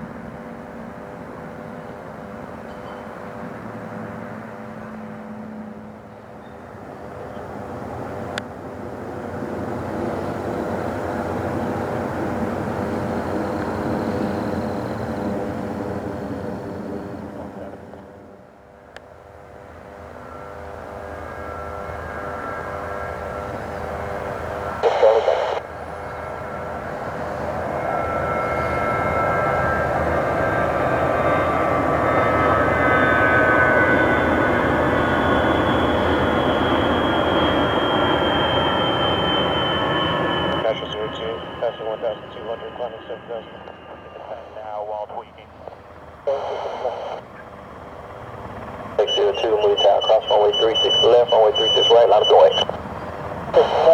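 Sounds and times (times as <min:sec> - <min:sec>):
aircraft engines droning: 0:00.0 - 0:53.9
whining turbine tone: 0:00.0 - 0:53.9.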